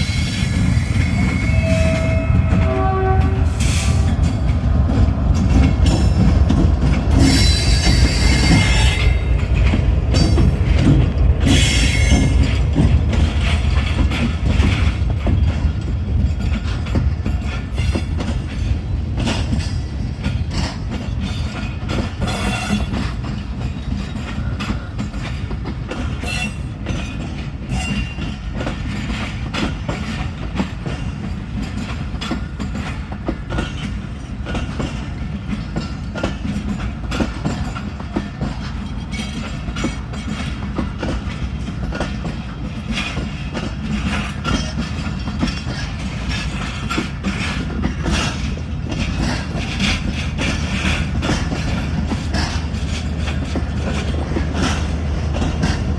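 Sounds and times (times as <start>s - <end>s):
train coaches rumbling past: 0.0s - 55.9s
wheels clacking over rail joints: 1.6s - 55.9s.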